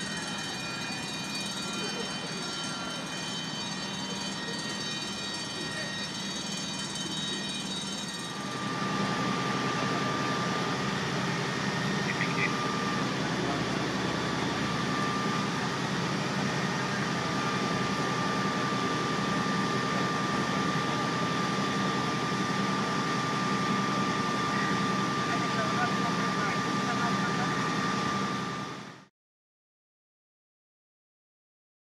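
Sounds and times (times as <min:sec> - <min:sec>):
fire engine pumps droning: 0:00.0 - 0:29.1
thin steady whine: 0:00.0 - 0:29.1.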